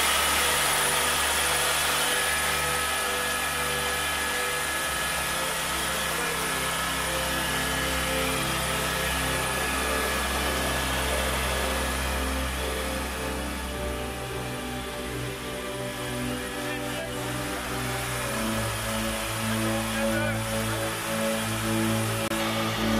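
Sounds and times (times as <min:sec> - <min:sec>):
helicopter engine and rotor drone: 0:00.0 - 0:22.9
high whine: 0:00.0 - 0:22.9.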